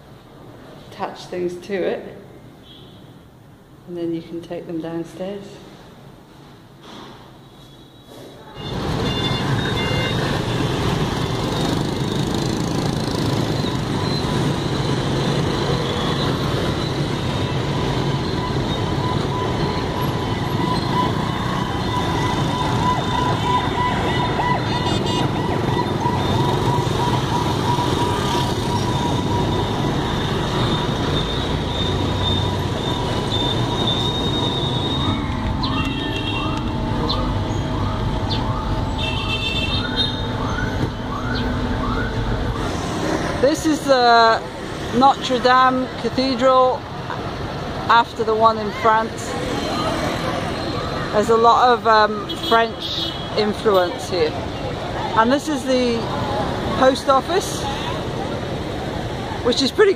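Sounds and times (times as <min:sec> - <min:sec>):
busy street traffic with motorbikes: 0:00.0 - 0:59.9.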